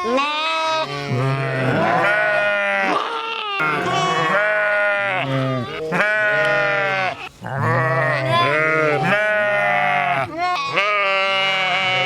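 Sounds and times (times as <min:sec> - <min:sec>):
sheep bleating: 0:00.0 - 0:12.0.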